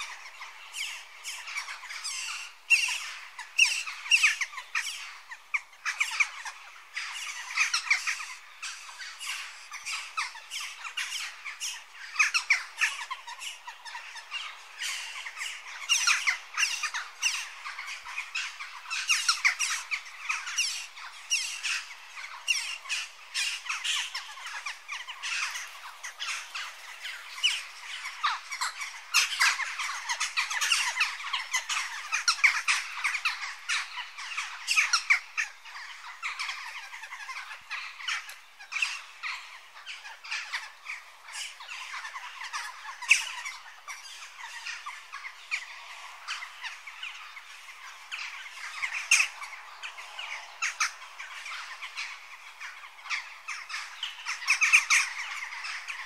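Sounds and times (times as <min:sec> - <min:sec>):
jackdaws calling: 0:00.0 - 0:56.0.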